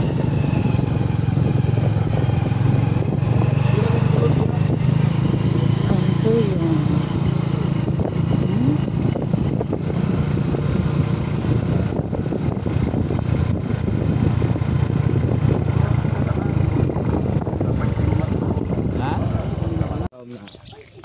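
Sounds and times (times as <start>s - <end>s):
motorcycle engine cruising: 0.0s - 20.1s
wind noise: 0.0s - 21.0s.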